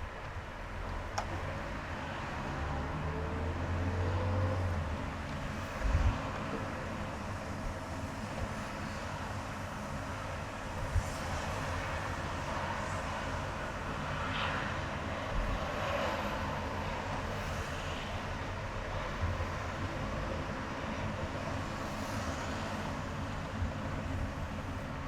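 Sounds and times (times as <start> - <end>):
engine and tyre rumble: 0.0 - 25.0
passing traffic rushing: 0.0 - 25.0.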